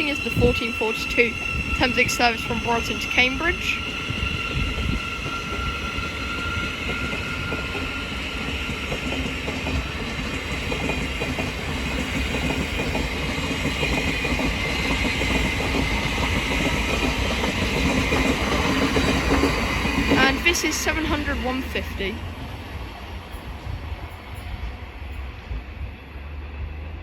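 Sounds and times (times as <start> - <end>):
electric train pulling out: 0.0 - 27.0.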